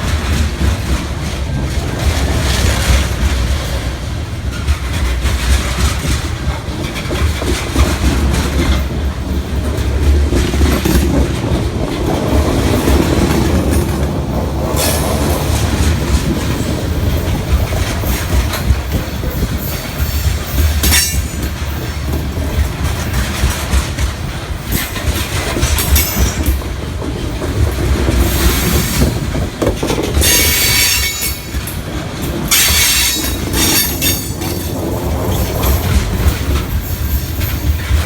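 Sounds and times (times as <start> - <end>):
low train rumble: 0.0 - 38.0
train wheels clacking on rail joints: 0.0 - 38.0.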